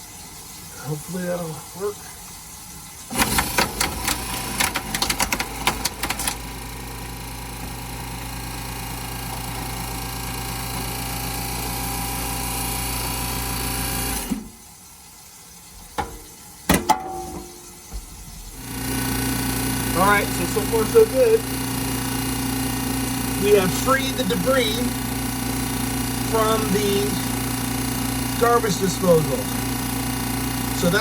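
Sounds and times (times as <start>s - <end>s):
garbage disposal motor: 0.0s - 31.0s.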